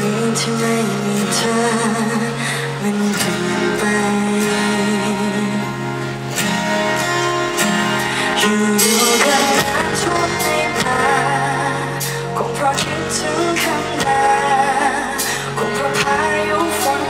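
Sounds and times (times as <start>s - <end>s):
woman singing: 0.0s - 6.1s, 8.2s - 17.0s
acoustic guitar strumming: 0.0s - 17.0s.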